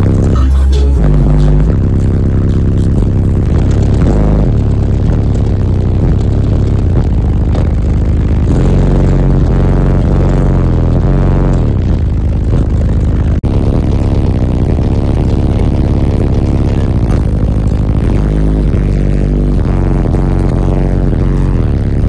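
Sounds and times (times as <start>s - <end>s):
loud bass music in car: 0.0s - 22.0s.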